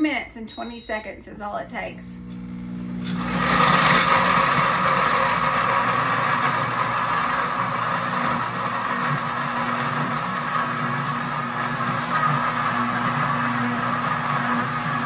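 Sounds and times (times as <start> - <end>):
blender motor grinding nuts: 2.2 - 15.0.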